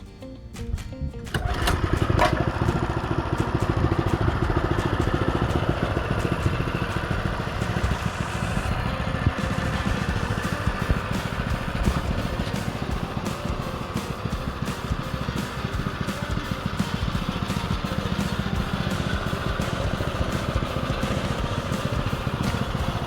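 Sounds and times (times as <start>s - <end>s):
mini bike engine running: 1.3s - 23.0s.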